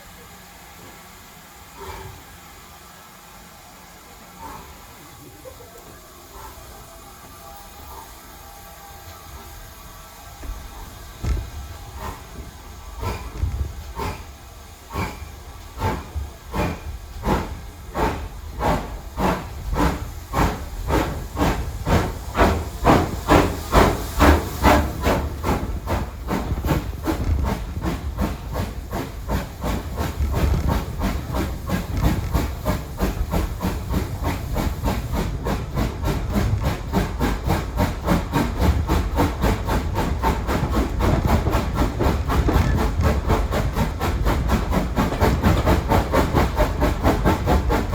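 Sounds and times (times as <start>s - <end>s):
low train running rumble: 0.0s - 47.9s
steam locomotive chuffing: 0.0s - 47.9s.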